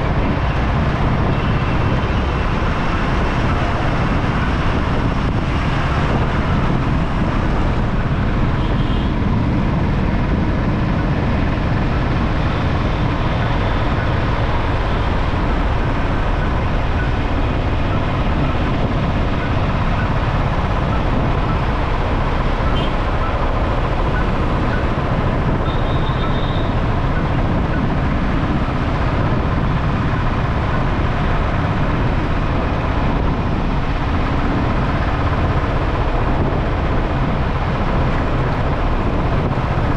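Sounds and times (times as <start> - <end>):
motorcycle road noise rumble: 0.0 - 39.9.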